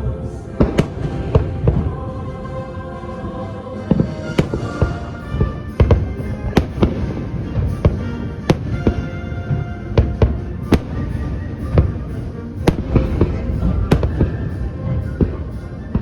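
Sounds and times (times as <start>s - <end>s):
music: 0.0s - 16.0s
fireworks bursting: 0.6s - 2.0s, 3.9s - 16.0s.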